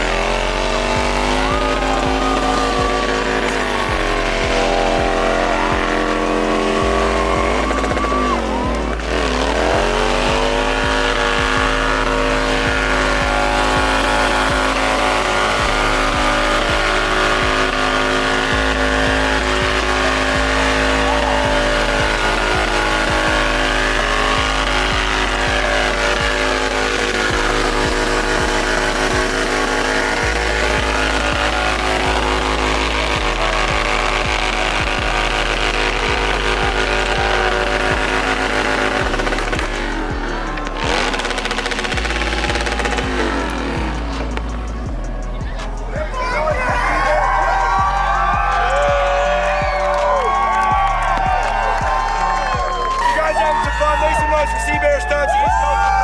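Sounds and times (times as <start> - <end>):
engine revving hard: 0.0 - 56.0
music with heavy bass: 0.0 - 56.0.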